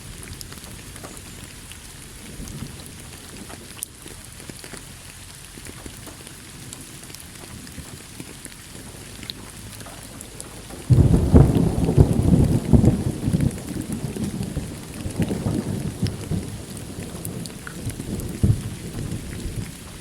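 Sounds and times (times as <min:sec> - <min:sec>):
thunder rumbling: 0:00.0 - 0:05.7, 0:08.7 - 0:20.0
steady rain pattering: 0:00.0 - 0:20.0.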